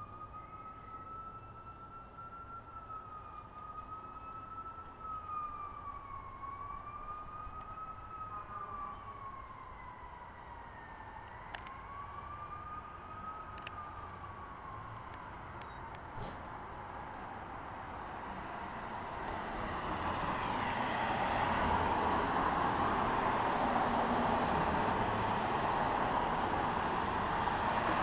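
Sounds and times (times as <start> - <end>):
fire truck siren wailing: 0.0 - 28.0.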